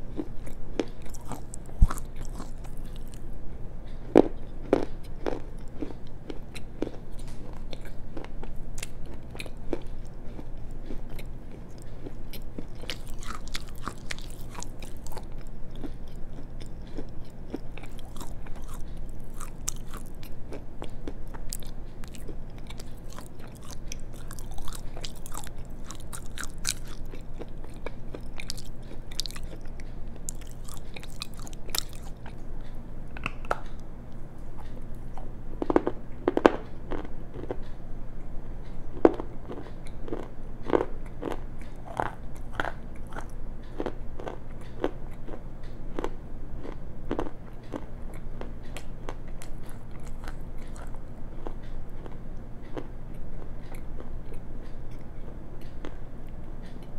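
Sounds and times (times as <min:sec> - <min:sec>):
biting and chewing shale: 0:00.0 - 0:37.8, 0:38.6 - 0:56.9.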